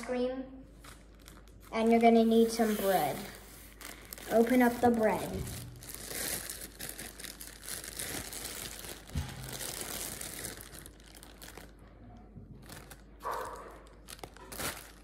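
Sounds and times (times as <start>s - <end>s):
plastic bag crinkling: 0.8s - 15.0s.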